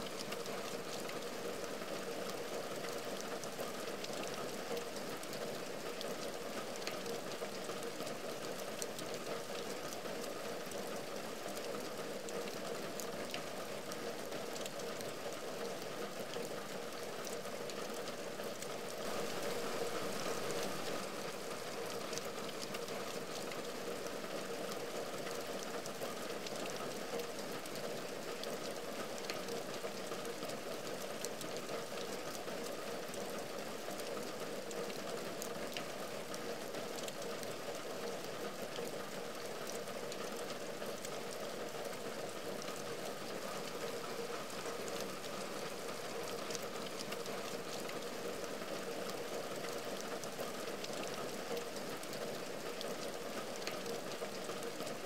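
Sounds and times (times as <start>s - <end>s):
rain on a window: 0.0s - 55.0s
rain drop ticks: 4.0s - 19.0s, 21.8s - 55.0s.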